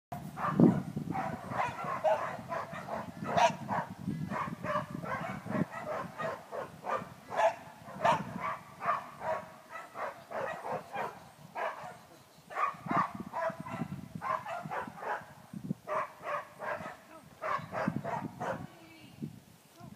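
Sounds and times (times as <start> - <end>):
dog barking: 0.4 - 15.3, 15.9 - 18.7.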